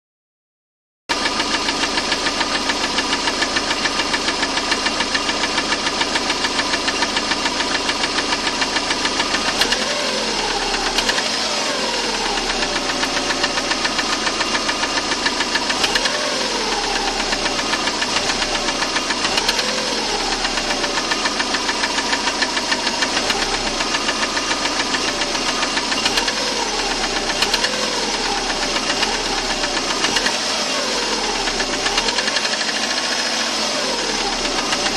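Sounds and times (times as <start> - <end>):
car engine knocking: 1.1 - 34.9.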